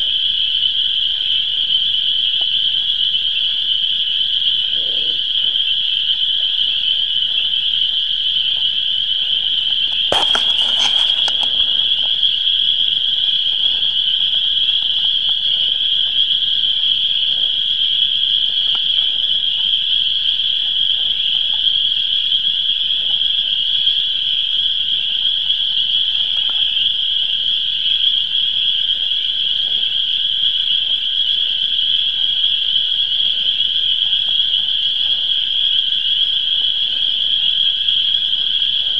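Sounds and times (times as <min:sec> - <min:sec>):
frog chorus: 0:00.0 - 0:38.9.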